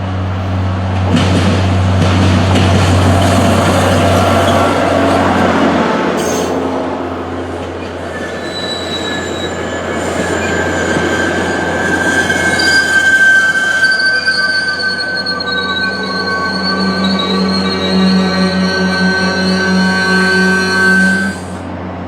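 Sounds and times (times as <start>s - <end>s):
train rumble: 0.0s - 22.0s
train wheels squealing on rails: 2.4s - 6.8s, 7.5s - 21.7s.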